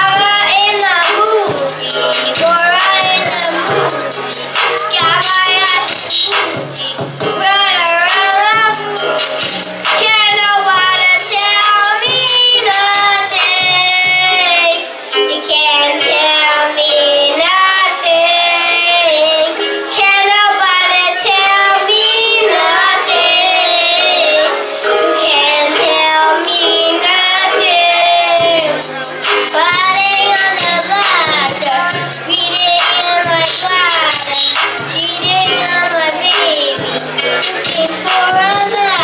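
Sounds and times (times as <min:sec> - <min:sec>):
backing music with bass and beat: 0:00.0 - 0:14.6, 0:17.4 - 0:39.0
boys singing together: 0:00.0 - 0:39.0.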